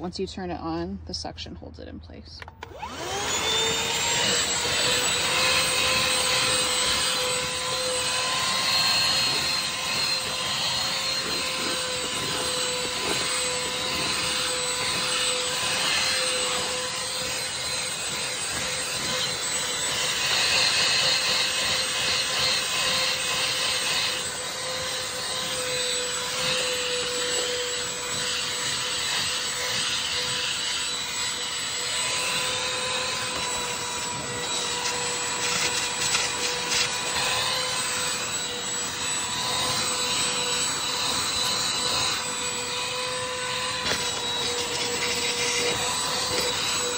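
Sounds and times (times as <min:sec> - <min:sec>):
handheld vacuum cleaner running: 0:02.4 - 0:46.9.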